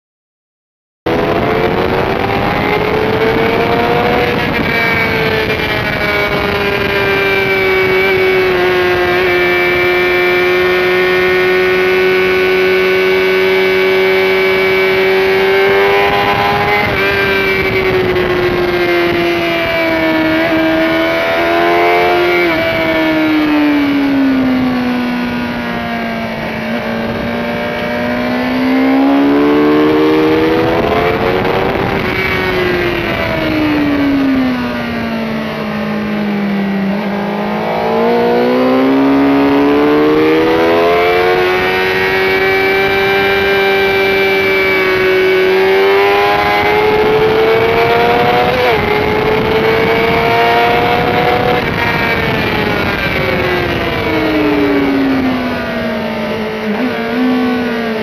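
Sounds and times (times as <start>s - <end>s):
motorcycle engine at high revs: 1.1s - 58.0s.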